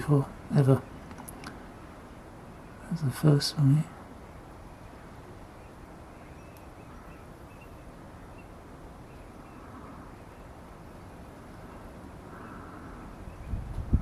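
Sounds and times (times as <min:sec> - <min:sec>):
distant high bird calls: 0:00.0 - 0:13.8
faint steady hiss: 0:00.0 - 0:14.0.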